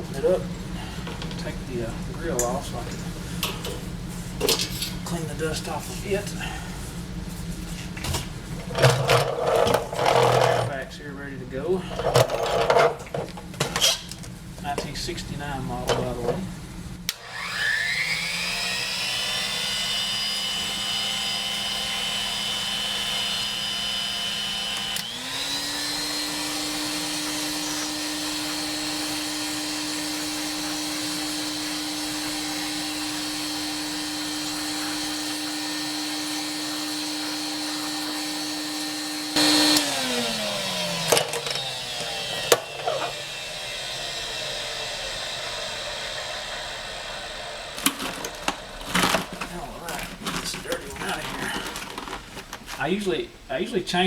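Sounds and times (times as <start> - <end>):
vacuum cleaner whine: 0.0 - 53.0.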